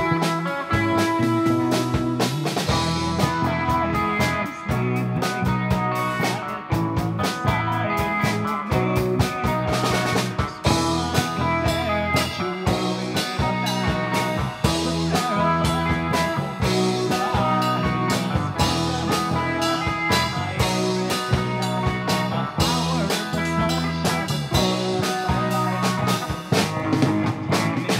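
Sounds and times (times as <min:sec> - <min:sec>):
drum kit: 0:00.0 - 0:27.9
electric bass: 0:00.0 - 0:27.9
electric guitars: 0:00.0 - 0:27.9
man singing: 0:02.8 - 0:26.6, 0:27.4 - 0:27.9.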